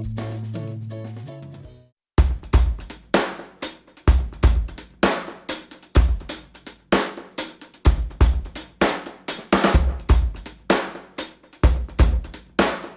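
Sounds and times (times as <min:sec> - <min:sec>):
drum kit beat: 0:00.0 - 0:12.9.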